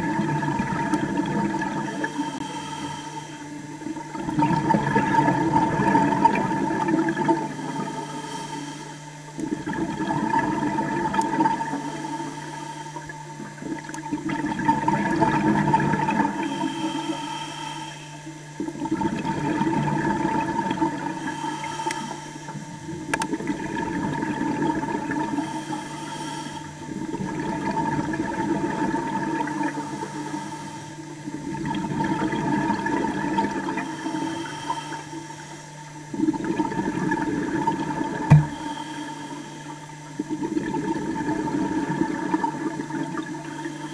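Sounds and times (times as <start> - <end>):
water rushing underwater: 0.0 - 8.8, 9.4 - 17.2, 18.6 - 35.2, 36.0 - 43.9
steady hum: 0.0 - 43.9.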